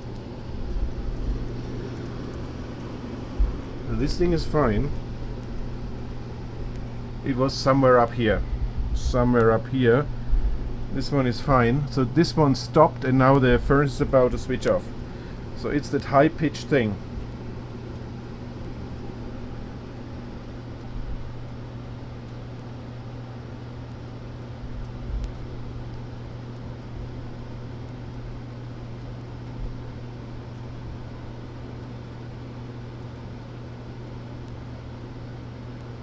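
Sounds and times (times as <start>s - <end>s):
furnace blower motor humming: 0.0s - 36.0s.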